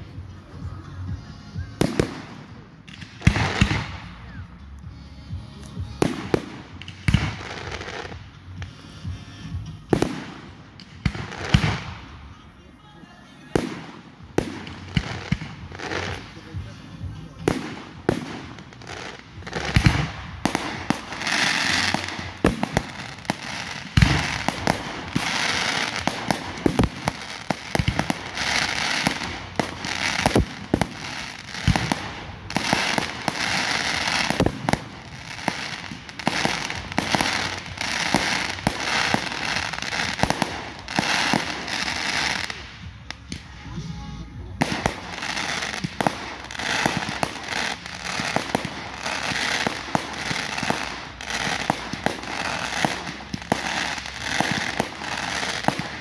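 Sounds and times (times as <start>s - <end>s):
fireworks crackling: 0.0s - 56.0s
fireworks bangs: 1.6s - 4.5s, 5.8s - 12.4s, 13.4s - 56.0s.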